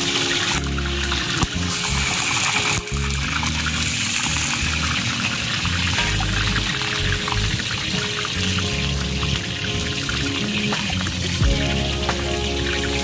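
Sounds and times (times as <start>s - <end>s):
background music: 0.0s - 13.0s
hot oil sizzling in a wok: 0.0s - 13.0s.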